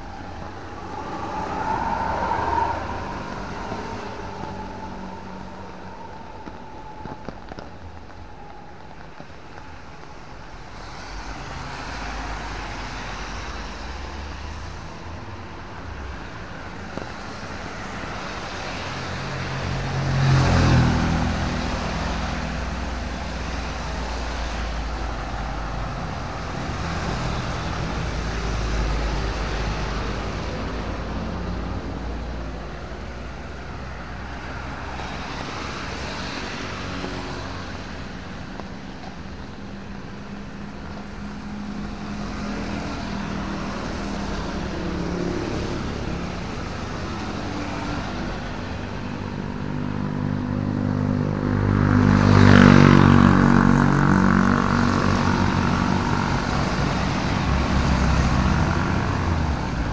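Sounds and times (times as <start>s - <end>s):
vehicle passing on wet road: 0.0s - 59.9s.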